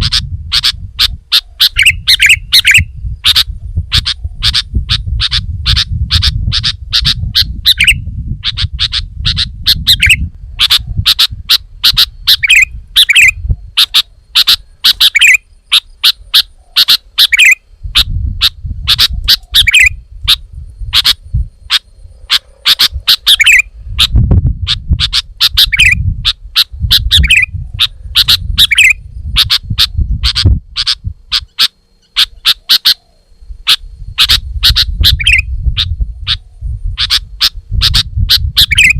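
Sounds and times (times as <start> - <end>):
bird calling with sharp chirps: 0.0 - 38.9.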